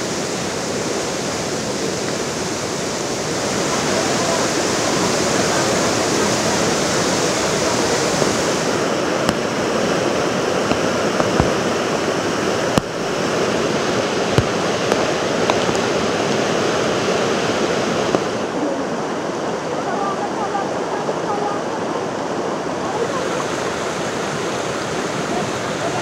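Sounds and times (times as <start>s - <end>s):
floodwater rushing: 0.0s - 26.0s.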